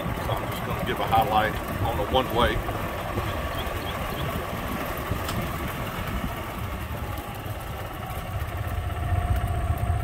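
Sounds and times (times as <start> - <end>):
vehicle engine low rumble: 0.0 - 10.0.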